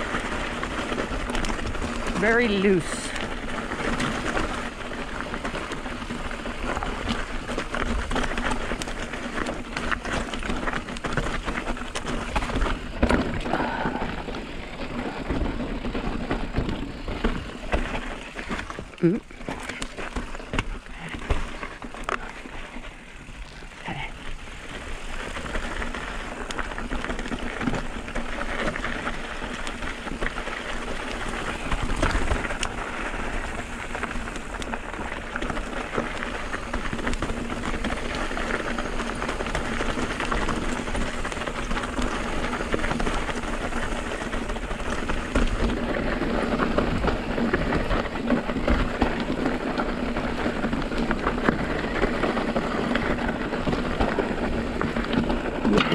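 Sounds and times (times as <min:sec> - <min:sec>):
bike rattling: 0:00.0 - 0:55.9
tyres crunching over gravel: 0:00.0 - 0:55.9.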